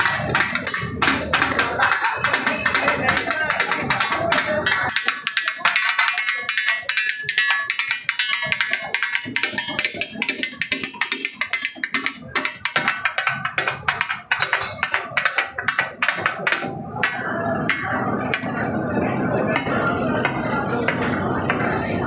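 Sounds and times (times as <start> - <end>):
fast busy percussion: 0.0 - 22.0.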